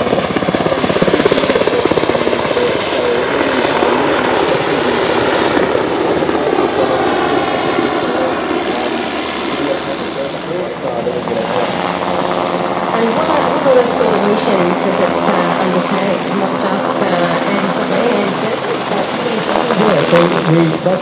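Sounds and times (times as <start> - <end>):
helicopter rotor chopping: 0.0 - 21.0.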